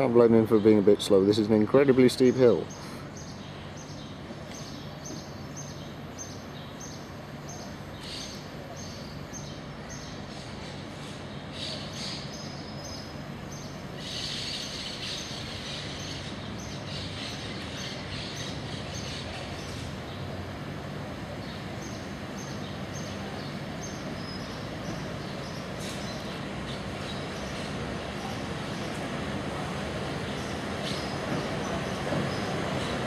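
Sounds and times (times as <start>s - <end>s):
birds chirping: 0.0s - 33.0s
low street hum: 0.0s - 33.0s.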